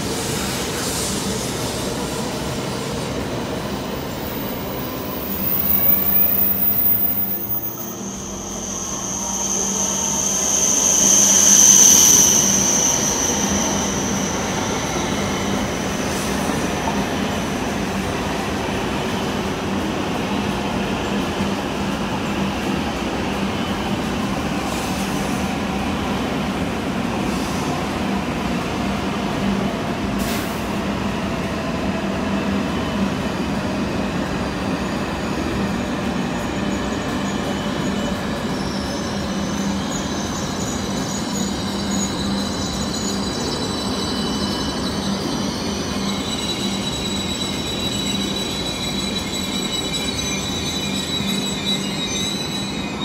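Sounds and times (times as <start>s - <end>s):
high brake squeal: 0.0s - 20.3s, 20.9s - 28.2s, 30.2s - 30.8s, 32.8s - 53.0s.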